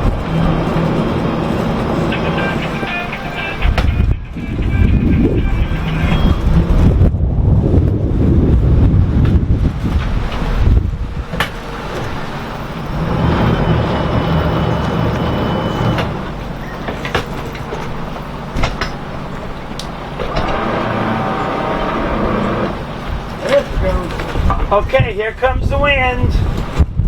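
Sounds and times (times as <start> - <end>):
higher hum: 0.0 - 25.1
boat diesel engine running: 0.0 - 26.8
wind buffeting microphone: 0.0 - 27.0.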